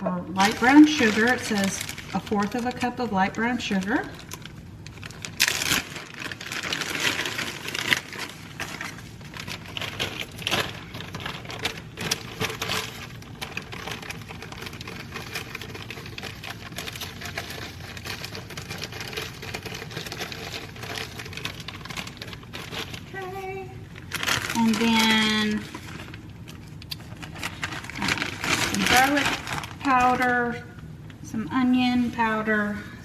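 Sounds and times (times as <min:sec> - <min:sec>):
sugar scraping and rustling: 0:00.3 - 0:30.6.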